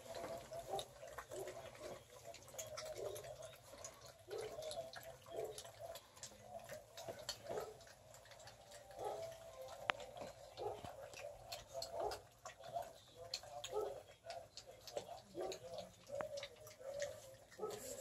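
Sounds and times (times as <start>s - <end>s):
puppies lapping food: 0.0s - 18.0s.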